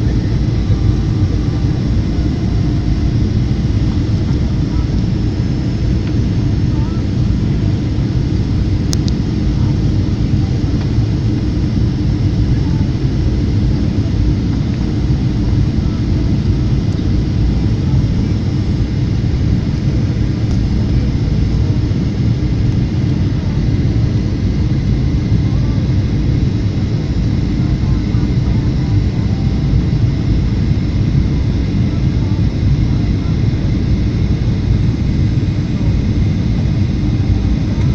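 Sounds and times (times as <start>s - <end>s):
airliner cabin rumble: 0.0s - 37.9s.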